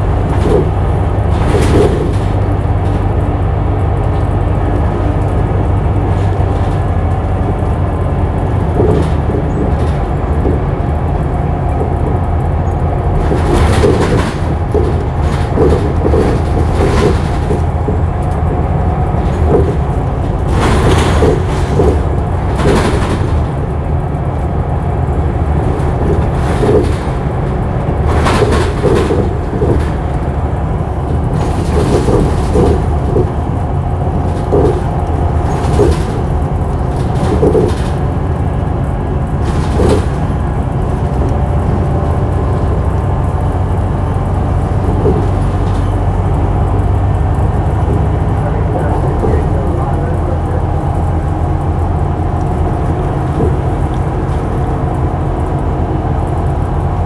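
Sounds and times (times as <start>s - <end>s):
bus engine humming: 0.0s - 57.0s
gearbox whine: 0.0s - 57.0s
rattle and clatter: 0.0s - 57.0s.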